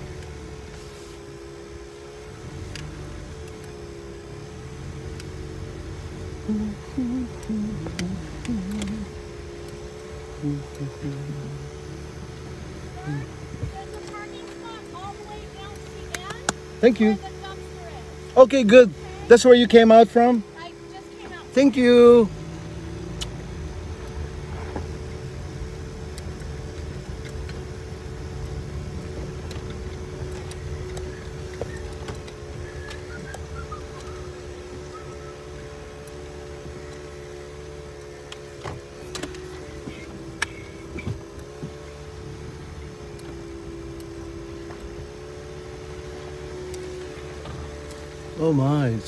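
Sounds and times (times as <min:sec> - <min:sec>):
engine and tyres rumbling: 0:00.0 - 0:49.0
faint steady hum: 0:00.0 - 0:49.0
low even tones: 0:01.6 - 0:49.0
faint ticks: 0:02.5 - 0:16.7, 0:20.3 - 0:48.4.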